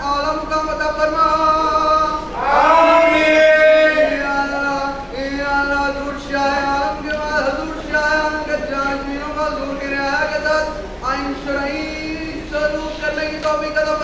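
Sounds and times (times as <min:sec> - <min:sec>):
man chanting a prayer: 0:00.0 - 0:14.0.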